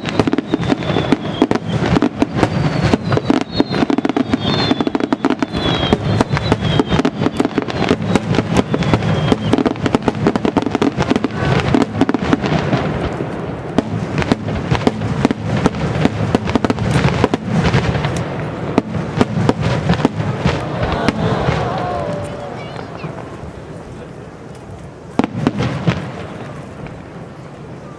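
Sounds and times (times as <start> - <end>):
fireworks bursting: 0.0 - 27.9.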